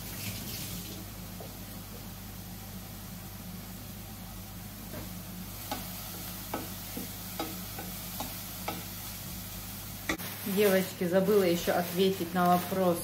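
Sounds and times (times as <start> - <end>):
range hood humming: 0.0 - 13.0.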